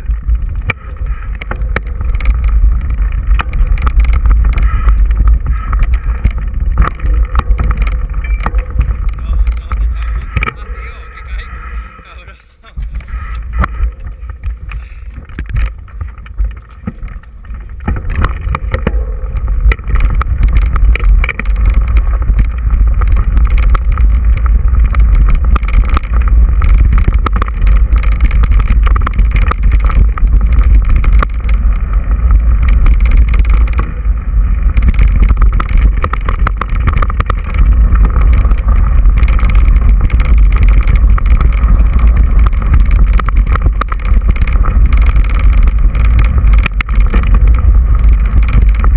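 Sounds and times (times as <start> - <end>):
bike tyres crunching on gravel: 0.0 - 48.9
wind rumbling on microphone: 0.0 - 48.9.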